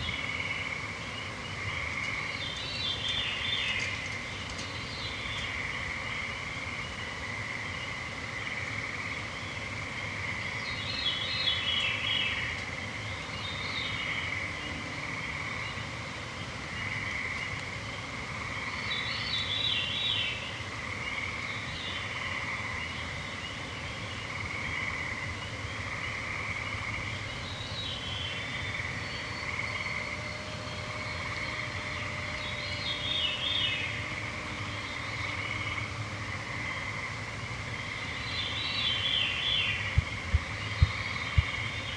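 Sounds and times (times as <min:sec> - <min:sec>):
treefrogs trilling: 0:00.0 - 0:41.9.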